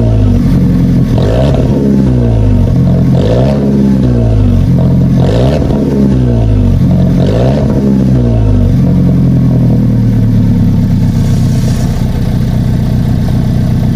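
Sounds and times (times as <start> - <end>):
car engine revving and idling: 0.0 - 13.9.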